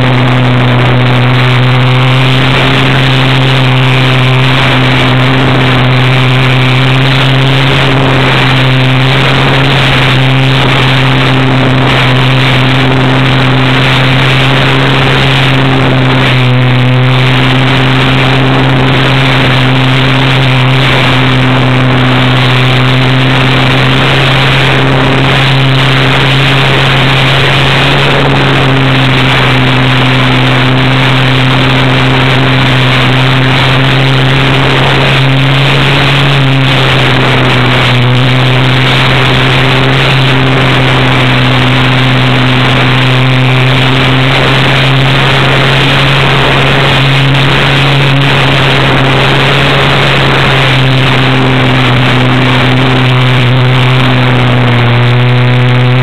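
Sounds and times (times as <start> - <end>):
electric motor and propeller drone: 0.0 - 56.0
rush of air: 0.0 - 56.0.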